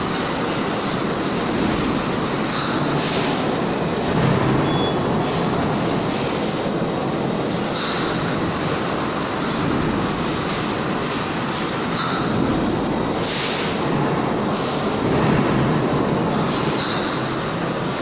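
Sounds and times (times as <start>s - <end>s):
washing machine mechanical rush: 0.0s - 18.0s.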